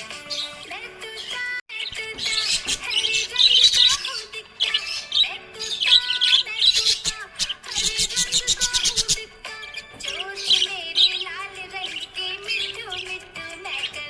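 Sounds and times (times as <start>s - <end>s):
background music: 0.0s - 14.0s
budgerigar chirping and warbling: 0.0s - 14.0s.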